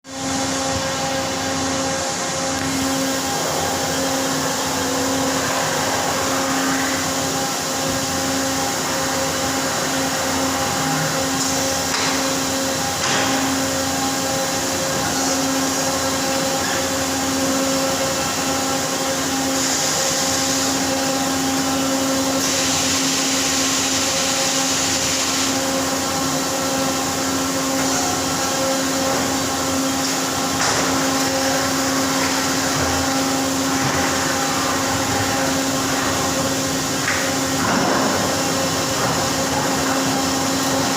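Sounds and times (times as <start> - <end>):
machinery hum: 0.0 - 40.9.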